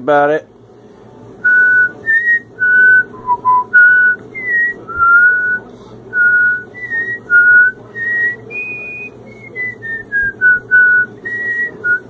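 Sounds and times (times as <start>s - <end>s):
man whistling a tune: 1.4s - 5.6s, 6.2s - 12.0s.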